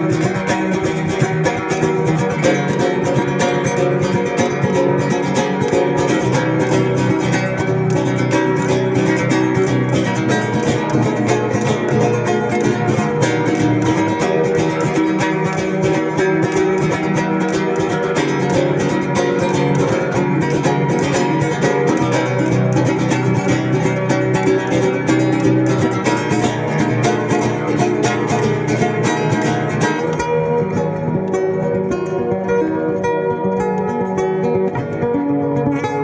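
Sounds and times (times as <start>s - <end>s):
acoustic guitar music: 0.0s - 36.0s.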